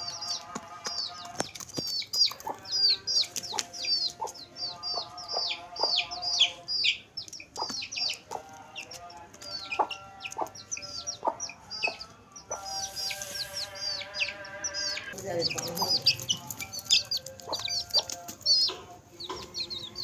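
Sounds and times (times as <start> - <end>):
chicken clucking: 0.0 - 20.0
chicks peeping: 0.0 - 20.0.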